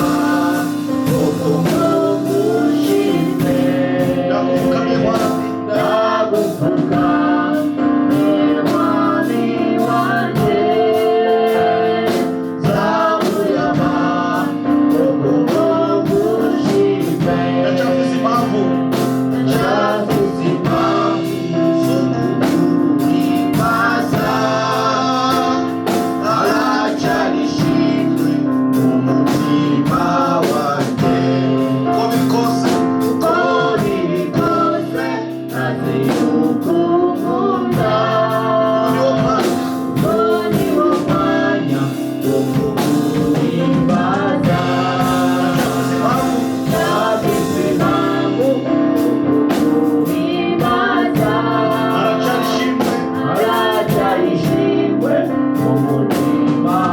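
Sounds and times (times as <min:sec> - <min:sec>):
band playing: 0:00.0 - 0:56.9
group of singers: 0:00.0 - 0:56.9.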